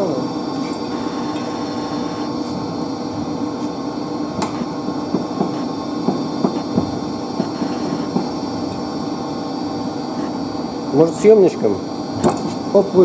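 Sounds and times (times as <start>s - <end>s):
pump machinery hum: 0.0s - 13.0s.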